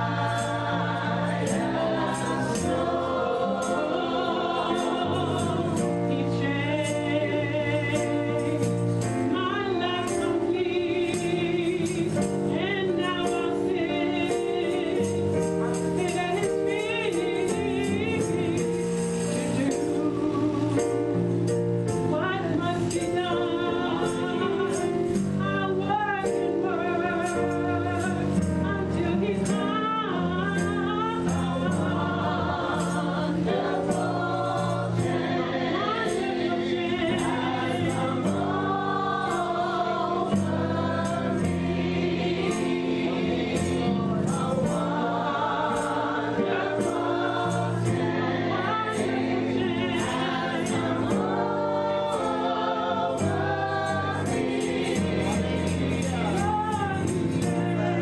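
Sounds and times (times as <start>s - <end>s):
gospel choir singing: 0.0s - 58.0s
percussion strikes: 0.0s - 58.0s.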